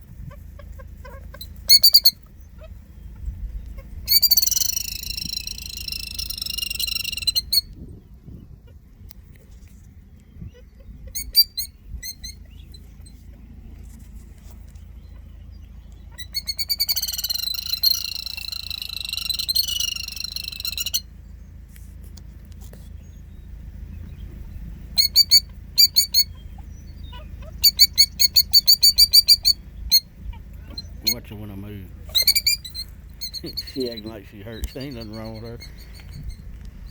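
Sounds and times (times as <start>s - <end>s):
low rumble: 0.0s - 4.2s, 4.8s - 16.6s, 17.7s - 36.9s
bird alarm calls: 0.2s - 7.8s, 10.3s - 13.7s, 14.5s - 21.5s, 22.9s - 36.9s.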